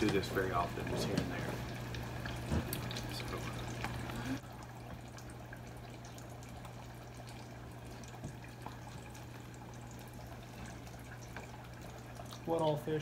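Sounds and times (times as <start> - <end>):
fish deep-frying in oil: 0.0 - 13.0.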